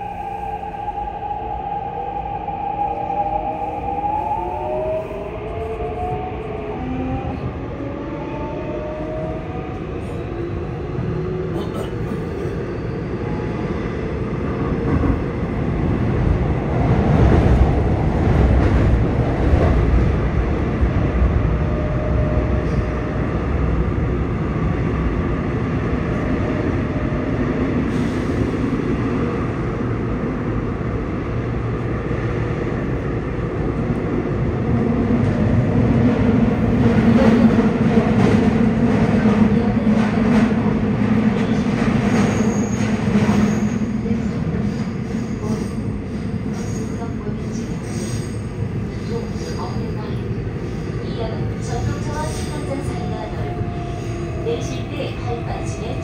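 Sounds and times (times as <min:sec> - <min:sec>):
train wheels rumbling on track: 0:02.6 - 0:56.0.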